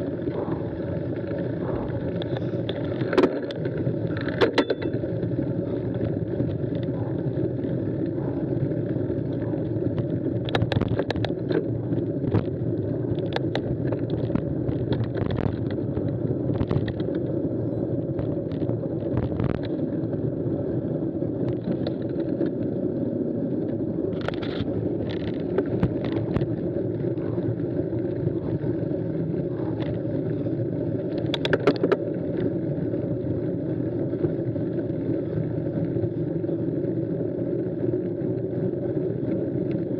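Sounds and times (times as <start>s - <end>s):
bike rattles and clicks: 0.0s - 39.9s
bike rolling over gravel: 0.0s - 39.9s.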